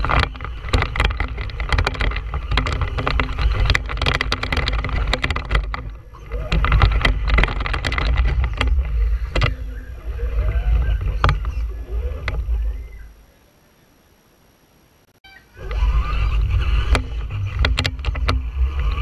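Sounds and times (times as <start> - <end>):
rattles and knocks: 0.0 - 12.9, 16.3 - 19.0
toy truck rumble: 0.0 - 13.1, 15.6 - 19.0
faint motor whine: 0.0 - 19.0.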